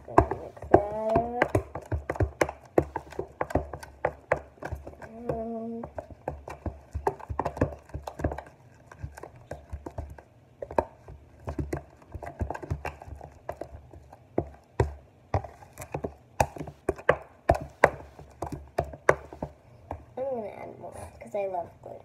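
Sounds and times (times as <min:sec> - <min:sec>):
fingers squishing slime: 0:00.0 - 0:20.3.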